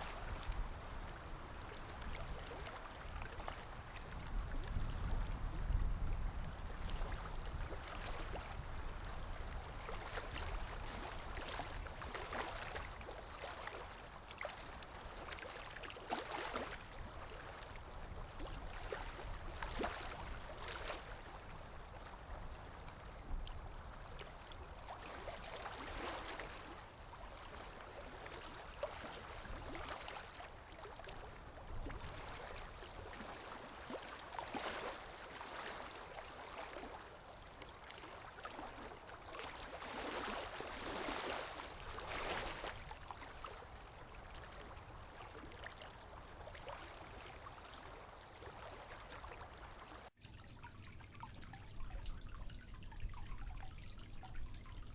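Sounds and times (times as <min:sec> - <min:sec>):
water splashing and gurgling: 0:00.0 - 0:22.7, 0:23.4 - 0:54.9.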